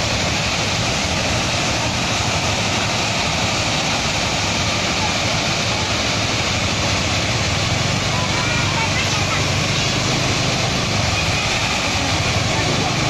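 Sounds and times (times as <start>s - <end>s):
landslide roar: 0.0s - 13.0s.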